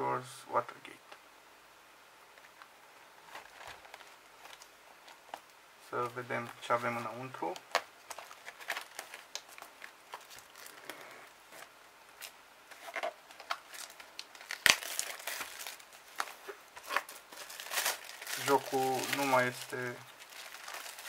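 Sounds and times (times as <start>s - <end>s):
plastic shrink wrap crinkling: 2.4s - 5.6s, 6.4s - 21.0s.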